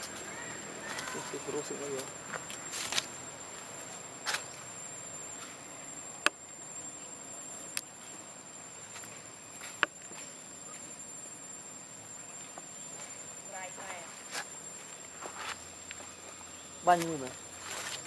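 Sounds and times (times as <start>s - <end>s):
high-pitched insect drone: 0.0s - 18.0s
outdoor hiss: 0.0s - 18.0s.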